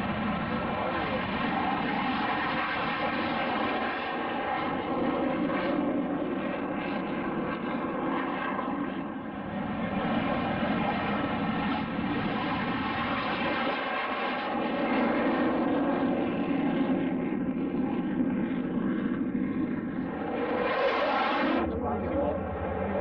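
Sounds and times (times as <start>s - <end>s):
aircraft engine humming: 0.0s - 23.0s.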